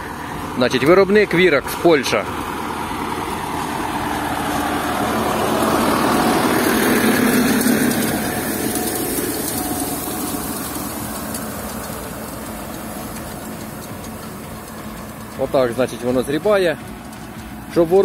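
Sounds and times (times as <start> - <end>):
tractor diesel engine passing: 0.0 - 18.0.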